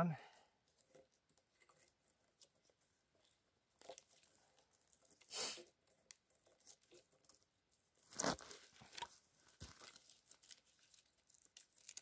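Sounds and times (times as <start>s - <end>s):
hands rustling and scraping cord: 0.3s - 12.0s.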